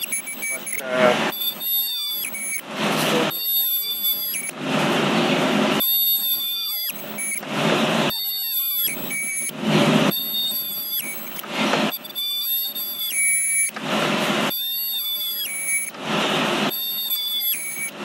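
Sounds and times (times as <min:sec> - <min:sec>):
harsh welding squeal: 0:00.0 - 0:18.0
ultrasonic welder whine: 0:00.0 - 0:18.0.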